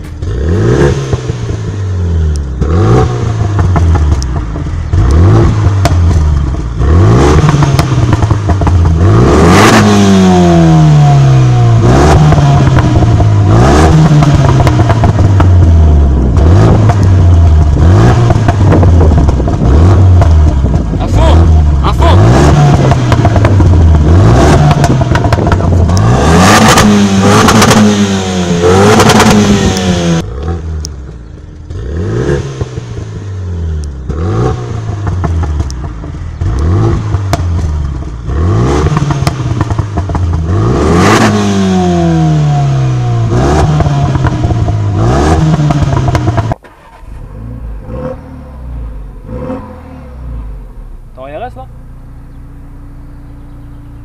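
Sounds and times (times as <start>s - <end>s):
car engine revving: 0.0s - 54.0s
exhaust cracks: 0.0s - 54.0s.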